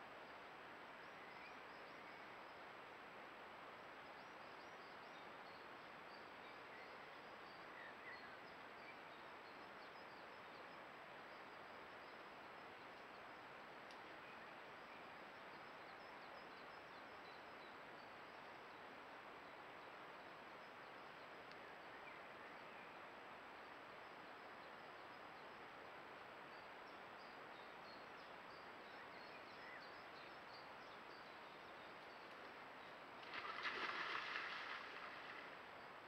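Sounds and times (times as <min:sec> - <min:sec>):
microphone hiss: 0:00.0 - 0:36.0.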